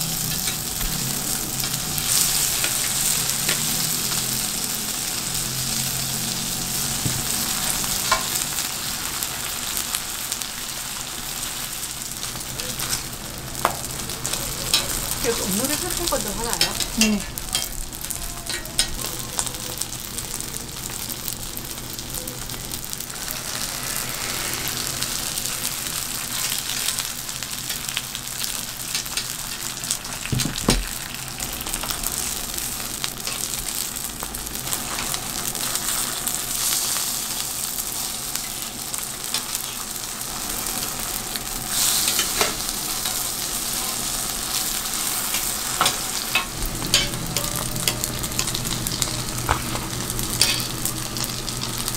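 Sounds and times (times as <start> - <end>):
dumplings sizzling in oil: 0.0 - 51.9.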